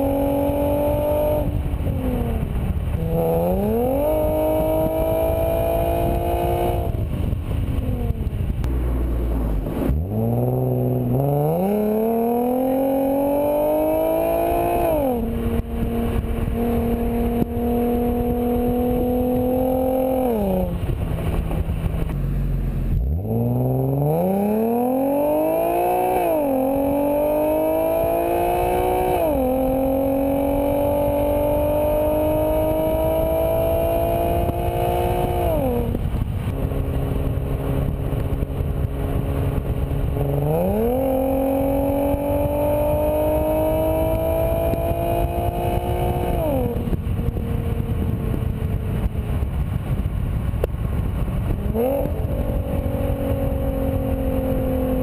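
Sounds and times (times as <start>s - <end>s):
car exhaust accelerating through gears: 0.0s - 55.0s.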